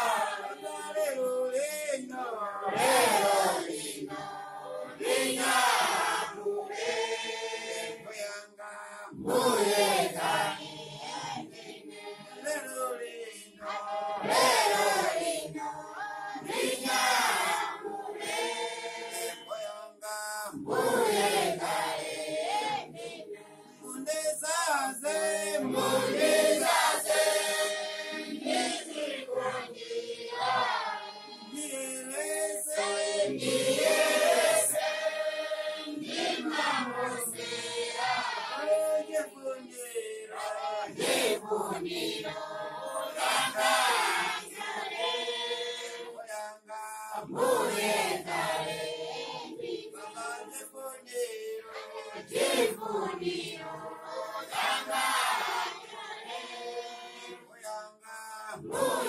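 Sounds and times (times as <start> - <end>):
congregation singing in chorus: 0.0 - 59.0.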